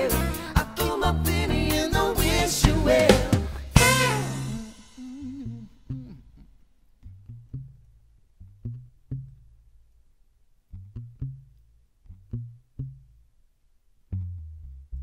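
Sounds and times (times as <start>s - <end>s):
plucked bass line: 0.0s - 10.0s, 10.7s - 13.4s, 14.0s - 15.0s.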